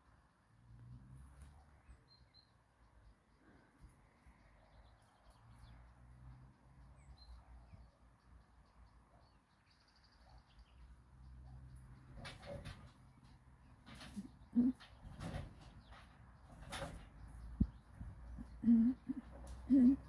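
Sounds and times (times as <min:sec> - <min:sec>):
faint bird chirps: 0:01.4 - 0:12.5, 0:13.1 - 0:20.0.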